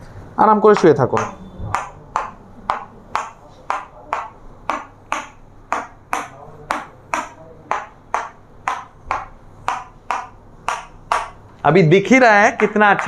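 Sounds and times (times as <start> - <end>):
sharp bright pings: 0.7 - 11.4.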